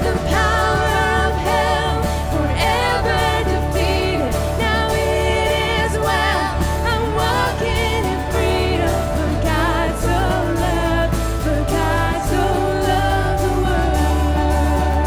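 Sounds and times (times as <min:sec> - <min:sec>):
person singing: 0:00.0 - 0:15.0
worship band playing: 0:00.0 - 0:15.0.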